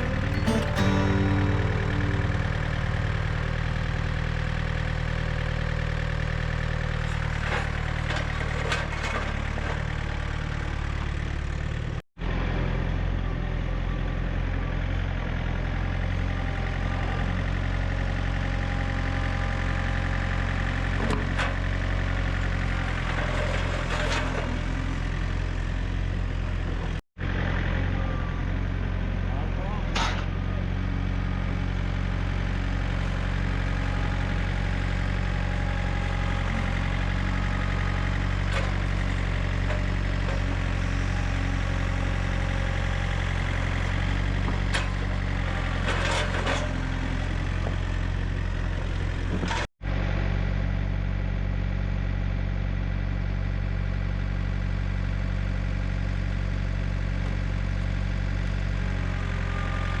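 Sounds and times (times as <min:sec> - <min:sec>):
sawmill engine running: 0:00.0 - 0:51.4, 0:53.4 - 1:00.0.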